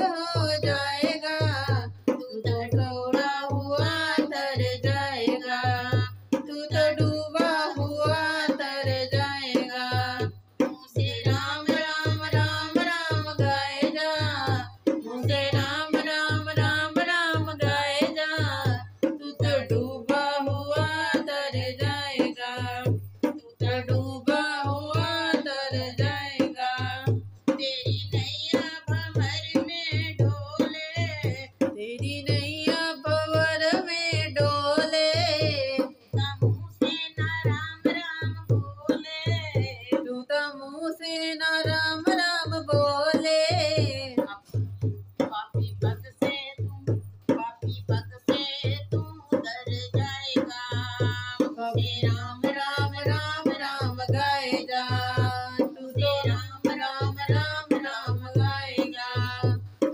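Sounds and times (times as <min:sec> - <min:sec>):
hand drum beat: 0:00.0 - 0:40.6, 0:41.2 - 0:59.9
woman singing: 0:00.0 - 0:59.9.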